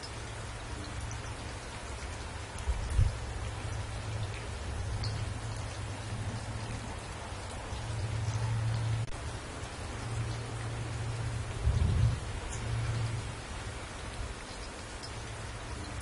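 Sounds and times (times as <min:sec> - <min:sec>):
rain splashing on wet surface: 0:00.0 - 0:16.0.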